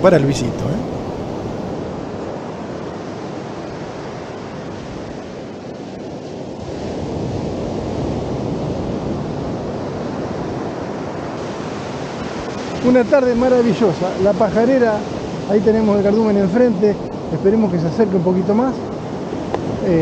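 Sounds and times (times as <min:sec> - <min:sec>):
sea surf washing ashore: 0:00.0 - 0:02.0, 0:05.6 - 0:20.0.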